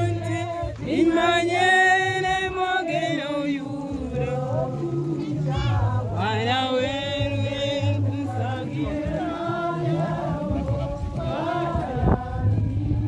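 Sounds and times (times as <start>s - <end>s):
people singing slow song: 0.0s - 13.0s.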